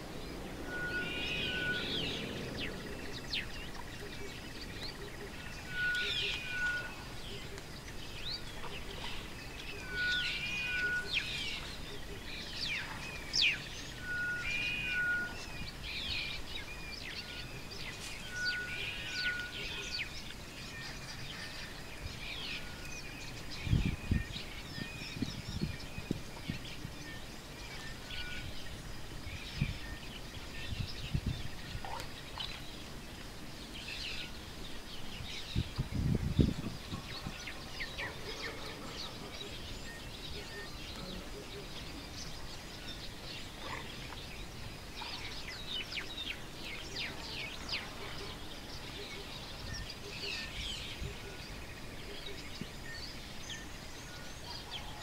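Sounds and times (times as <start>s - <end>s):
wild birds chirping: 0.0s - 55.0s.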